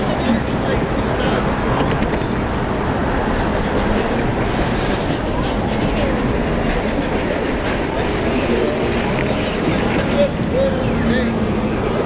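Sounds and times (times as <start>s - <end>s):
cars and truck passing: 0.0s - 12.0s
city street traffic rumble: 0.0s - 12.0s.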